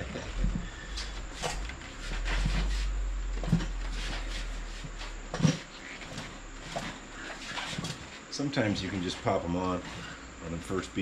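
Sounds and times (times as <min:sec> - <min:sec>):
rubber tire rubbing on rim: 0:01.3 - 0:10.7.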